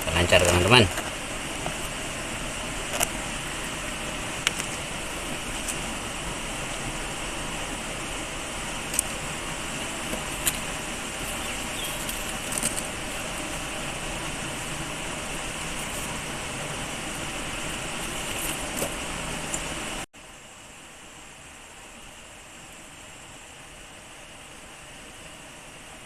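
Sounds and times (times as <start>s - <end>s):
flowing river water: 0.0s - 26.0s
steady hiss: 0.0s - 26.0s.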